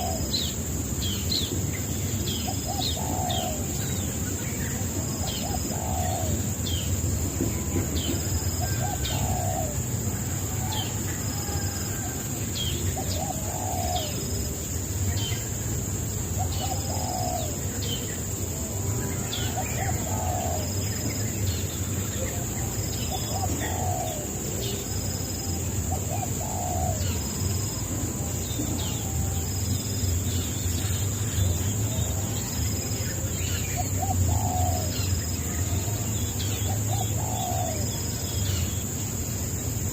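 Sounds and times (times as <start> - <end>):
birds low calls: 0.0 - 39.9
steady high hiss: 0.0 - 39.9.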